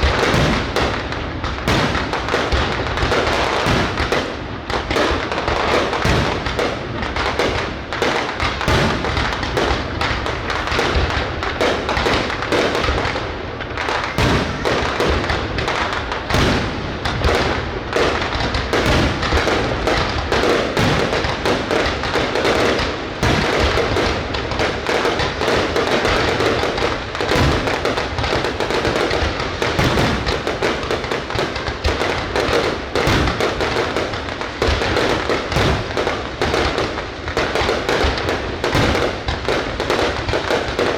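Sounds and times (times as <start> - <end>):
deep firework booms: 0.0 - 40.9
firework bursts and crackles: 0.0 - 40.9.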